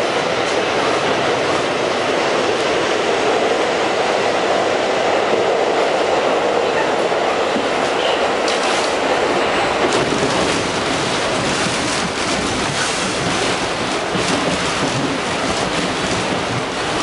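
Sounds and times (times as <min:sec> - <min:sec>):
subway train wheels on rail: 0:00.0 - 0:17.0.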